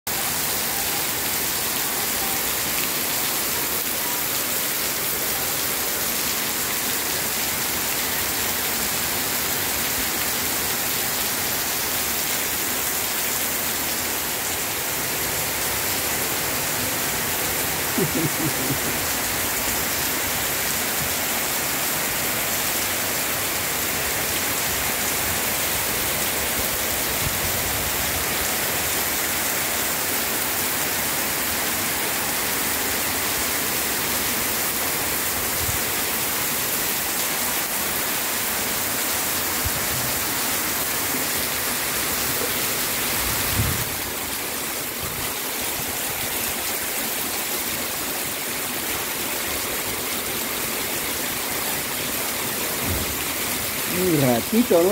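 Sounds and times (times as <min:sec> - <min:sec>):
heavy rain on wet paving: 0:00.1 - 0:54.9.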